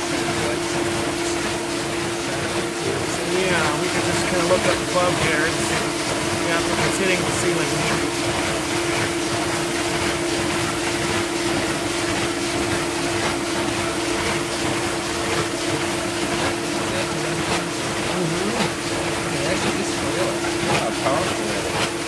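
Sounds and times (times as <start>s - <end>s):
dishwasher motor hum: 0.0s - 22.0s
water spraying and splashing: 0.0s - 22.0s.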